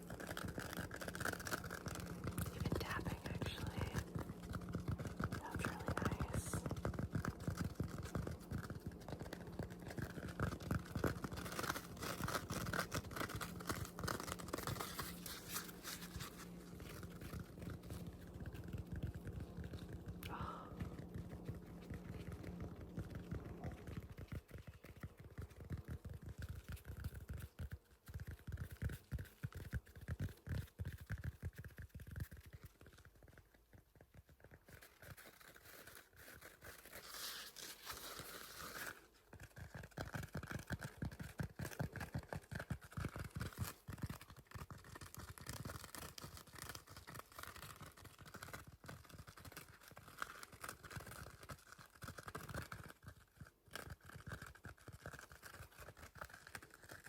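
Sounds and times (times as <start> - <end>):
scratching on sponge: 0.0 - 57.0.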